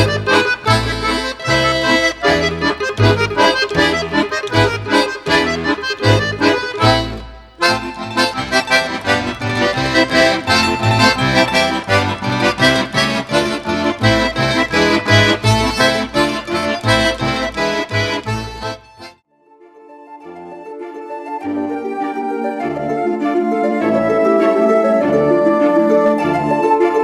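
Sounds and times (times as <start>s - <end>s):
lively accordion music: 0.0s - 19.2s, 20.2s - 27.0s.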